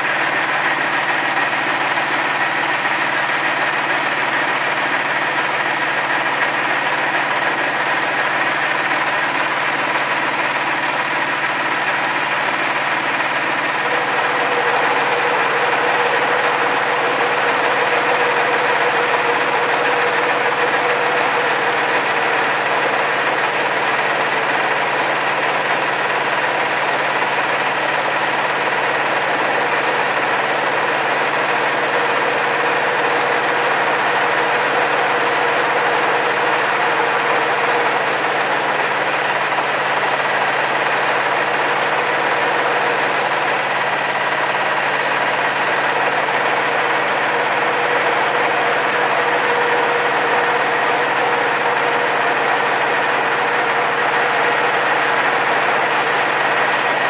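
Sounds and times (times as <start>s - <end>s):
pellet mill machine drone: 0.0s - 57.0s.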